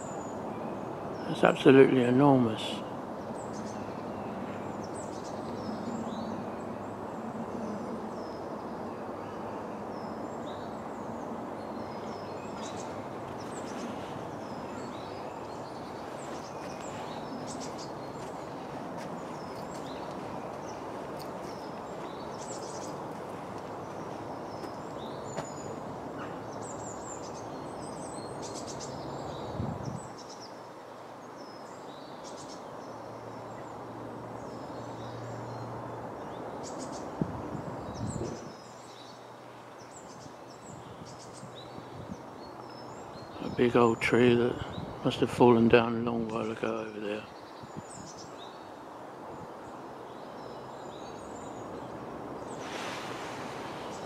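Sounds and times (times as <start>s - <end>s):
background rush of noise: 0.0s - 54.0s
small birds chirping: 0.0s - 54.0s.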